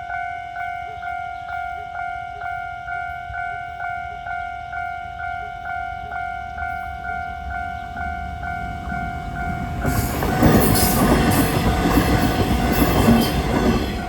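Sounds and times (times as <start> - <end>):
train passing: 0.0 - 14.0.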